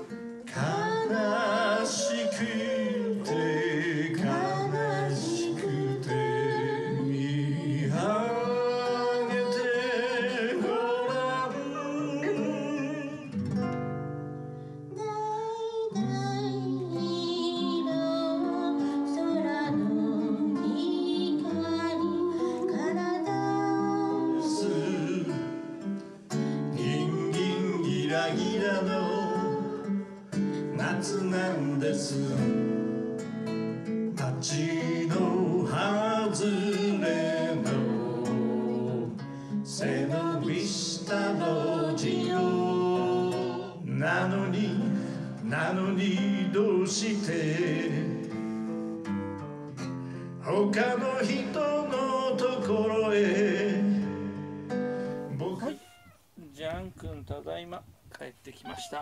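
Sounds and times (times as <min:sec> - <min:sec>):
man and woman singing duet: 0:00.0 - 0:13.6, 0:15.2 - 0:33.5, 0:34.1 - 0:48.7, 0:50.4 - 0:55.8
acoustic guitar: 0:00.0 - 0:59.0.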